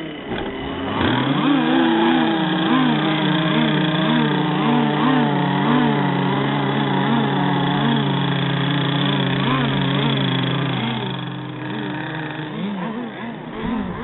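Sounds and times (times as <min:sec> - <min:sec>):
small two-stroke engine revving: 0:00.0 - 0:14.0
small two-stroke engine running steadily: 0:00.0 - 0:14.0.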